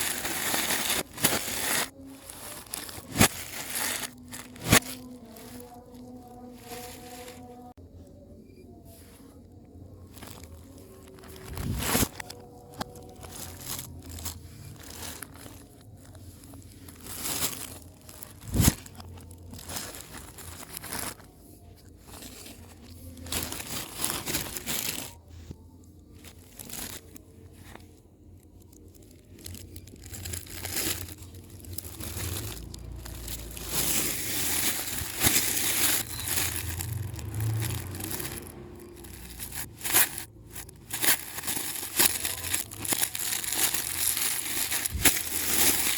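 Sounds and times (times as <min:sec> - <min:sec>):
packaging crinkling and rustling: 0:00.0 - 0:07.8, 0:09.8 - 0:45.9.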